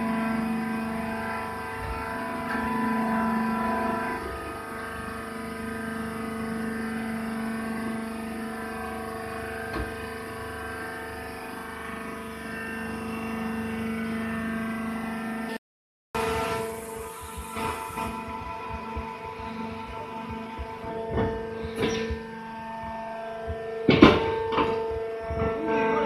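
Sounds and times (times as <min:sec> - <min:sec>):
electric motor and pump humming: 0:00.0 - 0:15.6, 0:16.2 - 0:26.0.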